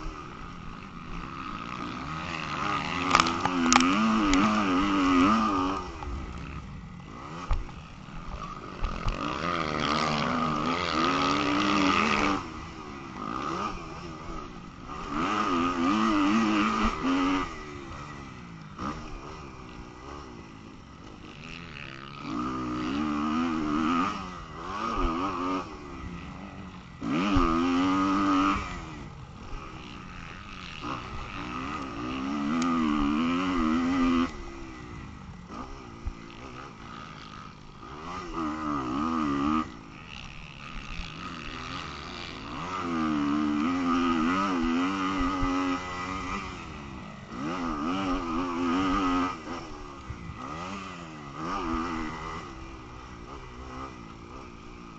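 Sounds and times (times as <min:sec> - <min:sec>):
motocross bike engine revving: 0:00.0 - 0:54.9.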